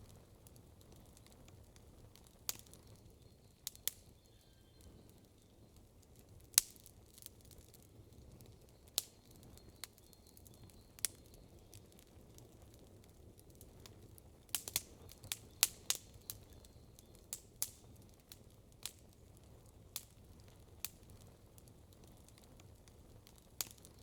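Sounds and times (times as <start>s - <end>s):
campfire wood popping: 0.0s - 24.0s.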